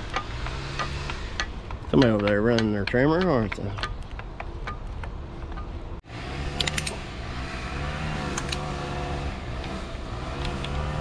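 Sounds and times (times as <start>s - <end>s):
engine running: 0.0s - 3.8s, 4.4s - 11.0s.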